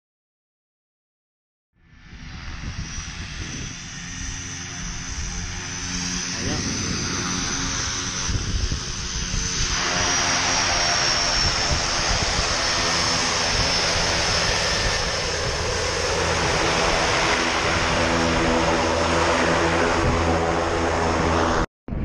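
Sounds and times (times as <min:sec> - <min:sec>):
propeller plane engine roar: 0:01.8 - 0:21.7.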